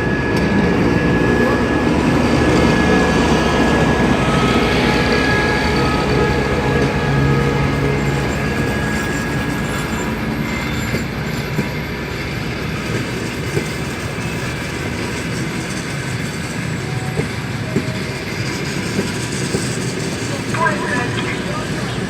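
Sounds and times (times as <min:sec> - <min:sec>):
train carriages rumbling past: 0:00.0 - 0:22.0.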